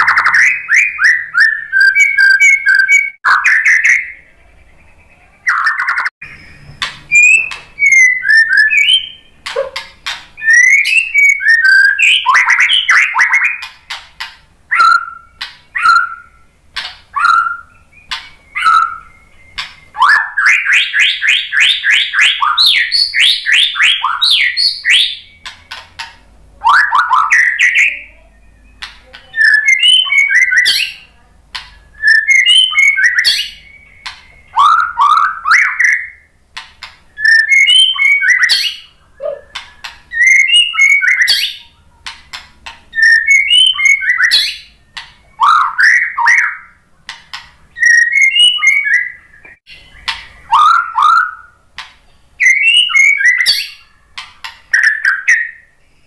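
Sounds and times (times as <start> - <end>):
bird singing whistles and clicks: 0.0 - 4.2, 5.5 - 55.8.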